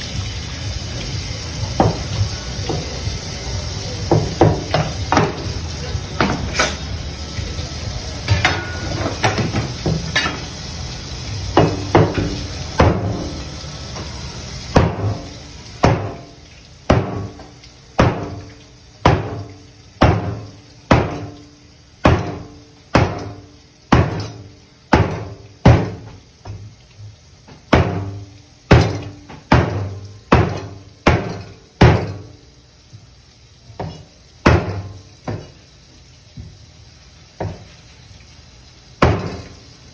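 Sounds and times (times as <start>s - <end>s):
water rushing from hose: 0.0s - 39.9s.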